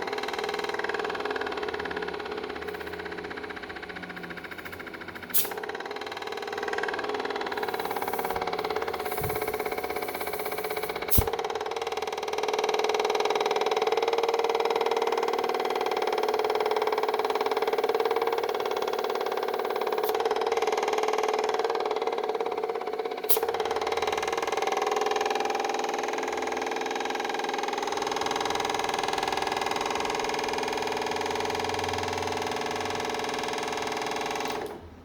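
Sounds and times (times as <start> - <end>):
air compressor humming: 0.0 - 35.0.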